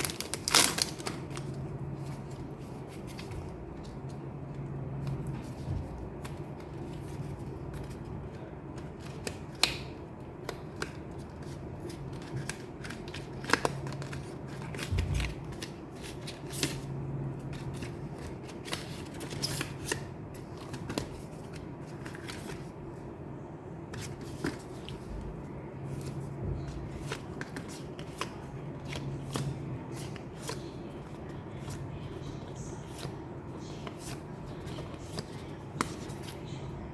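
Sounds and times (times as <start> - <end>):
hands handling cards: 0.0 - 4.3, 5.0 - 22.7, 23.9 - 25.2, 25.9 - 36.6
low background hum: 0.0 - 36.9.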